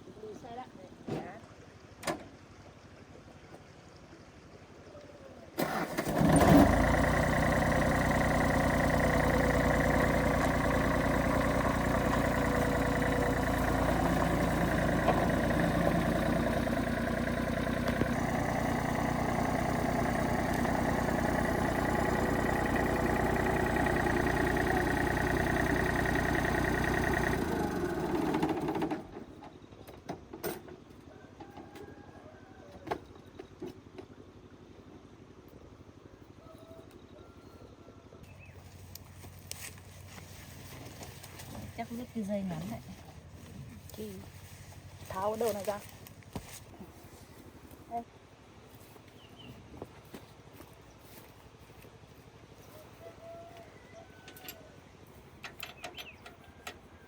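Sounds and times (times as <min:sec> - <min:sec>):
vehicle engine running: 0:00.0 - 0:29.9, 0:33.1 - 0:57.0.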